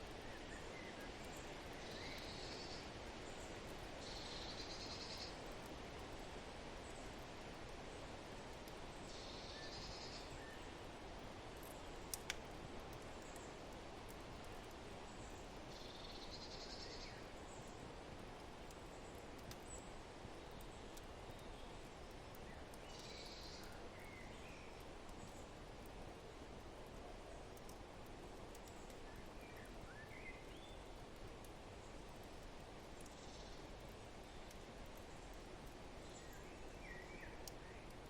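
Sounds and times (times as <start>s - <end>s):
fire crackling: 0.0s - 9.2s, 10.2s - 16.1s, 17.1s - 38.0s.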